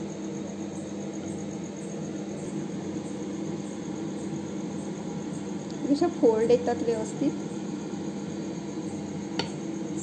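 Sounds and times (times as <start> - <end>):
high-pitched insect chirping: 0.0 - 10.0
steady low hum: 0.0 - 10.0.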